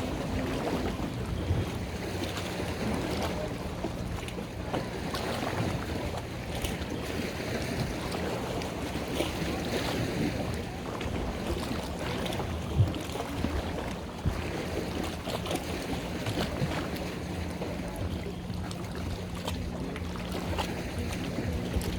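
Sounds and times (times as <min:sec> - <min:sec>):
boat engine running: 0:00.0 - 0:21.9
water wash: 0:00.0 - 0:21.9
wind on microphone: 0:00.0 - 0:21.9.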